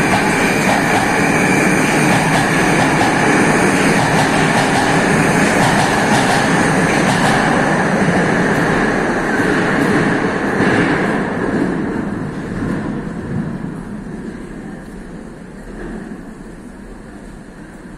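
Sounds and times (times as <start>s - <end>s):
metro train wheel and rail noise: 0.0s - 17.9s.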